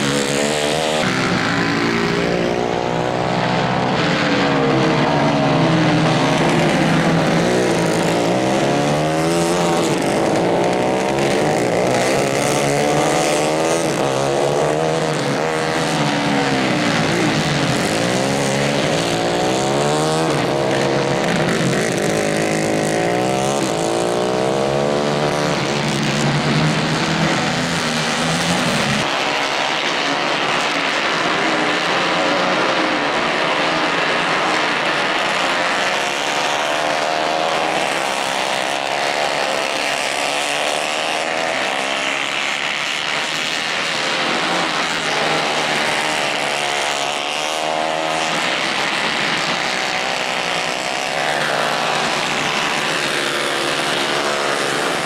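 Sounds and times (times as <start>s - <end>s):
racing kart engines: 0.0s - 55.0s.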